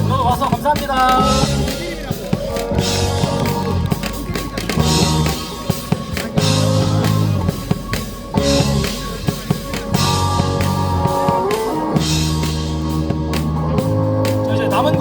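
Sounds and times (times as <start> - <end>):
bass notes and chords: 0.0 - 15.0
drum kit beat: 0.0 - 15.0.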